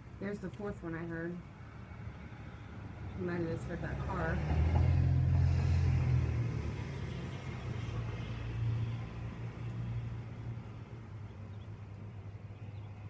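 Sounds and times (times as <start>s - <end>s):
passing car road rumble: 0.0s - 13.0s.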